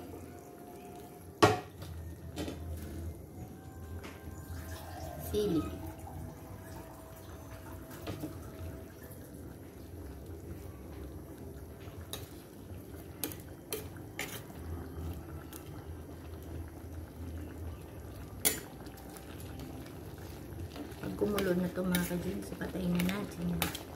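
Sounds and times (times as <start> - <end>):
pot bubbling: 0.0 - 23.9.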